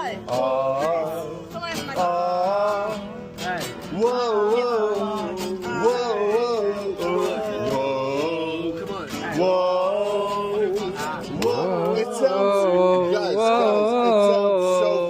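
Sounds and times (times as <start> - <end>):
acoustic guitar strumming: 0.0 - 15.0
voices singing wordless melody: 0.0 - 15.0.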